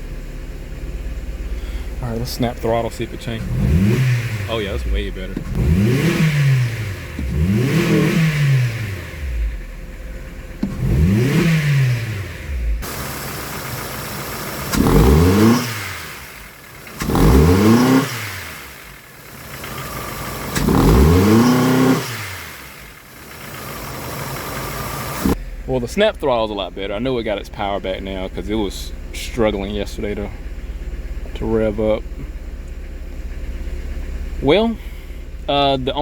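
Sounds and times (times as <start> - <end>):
car engine revving from idle: 0.0 - 36.0.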